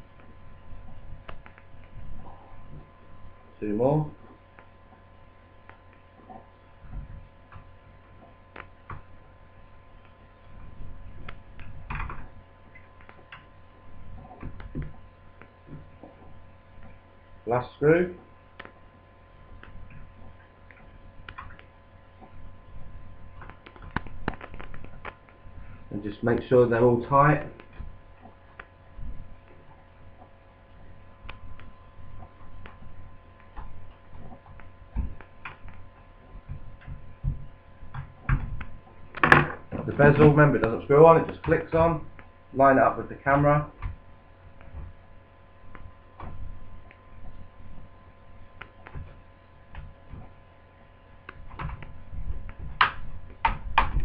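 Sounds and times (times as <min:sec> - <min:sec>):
steady mains hum: 0:00.0 - 0:54.0.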